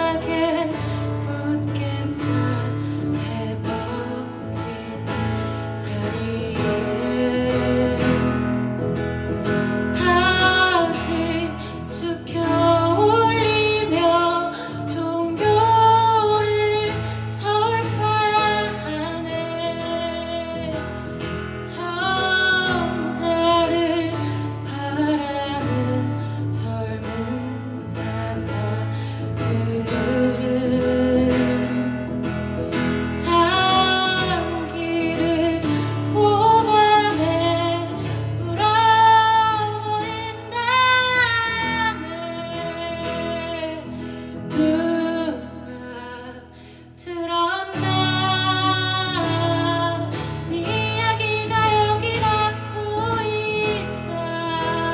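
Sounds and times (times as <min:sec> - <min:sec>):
strummed acoustic guitar: 0:00.0 - 0:54.9
woman singing: 0:00.0 - 0:54.9.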